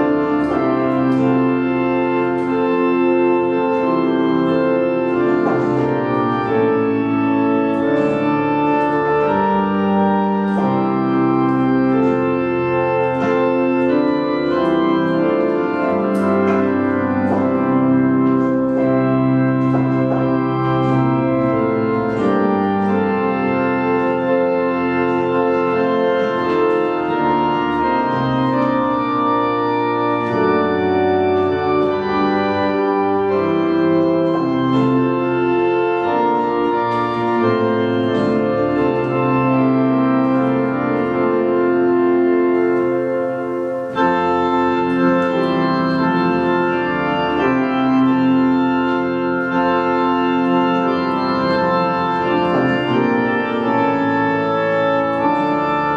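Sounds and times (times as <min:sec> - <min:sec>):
organ playing hymn chords: 0:00.0 - 0:55.9.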